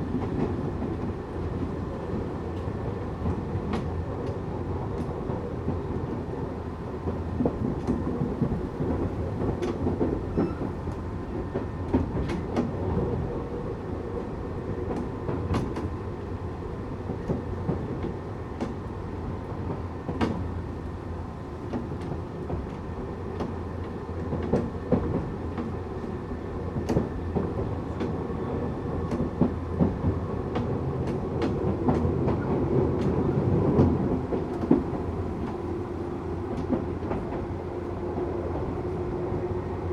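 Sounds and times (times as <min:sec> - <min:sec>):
electric train rumbling: 0:00.0 - 0:39.9.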